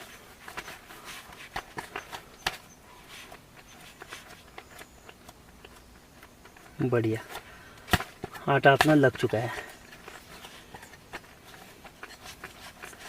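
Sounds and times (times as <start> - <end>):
hands kneading dough: 0.0 - 13.0.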